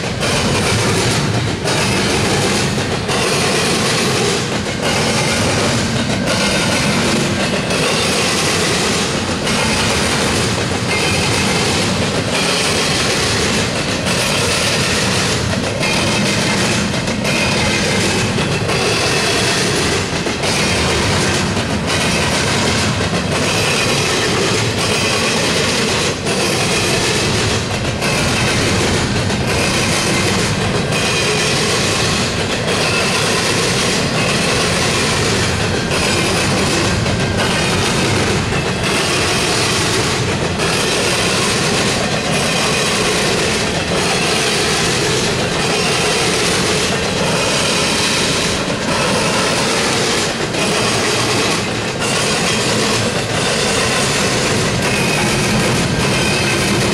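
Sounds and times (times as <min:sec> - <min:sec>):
freight train wheels on rails: 0:00.0 - 0:56.9.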